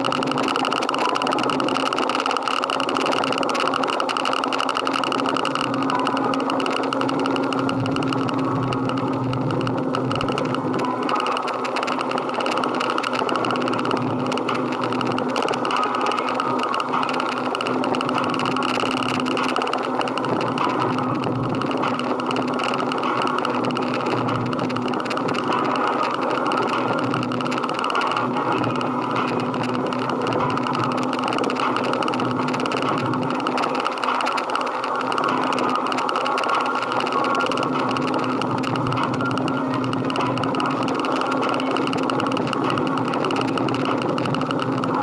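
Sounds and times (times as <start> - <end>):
motorcycle engine droning: 0.0 - 45.0.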